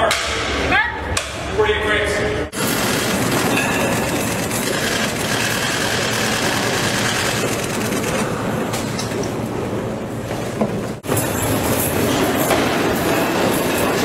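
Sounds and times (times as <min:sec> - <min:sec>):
subway train rail rumble: 0:02.4 - 0:14.0.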